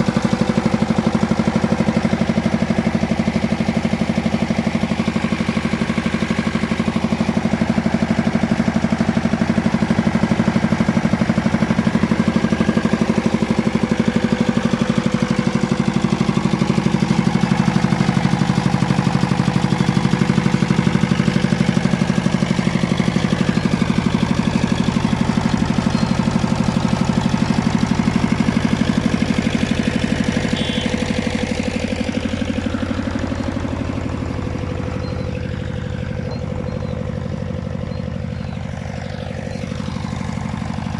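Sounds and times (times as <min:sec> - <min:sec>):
diesel generator engine running: 0:00.0 - 0:40.9.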